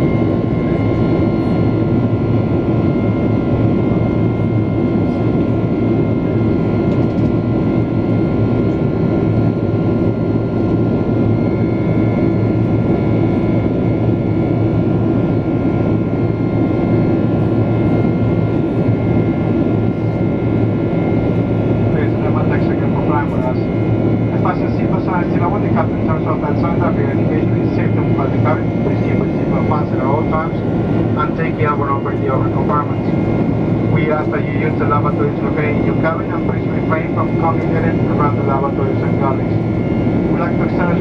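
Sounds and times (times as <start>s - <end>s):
airliner cabin drone: 0.0s - 41.0s.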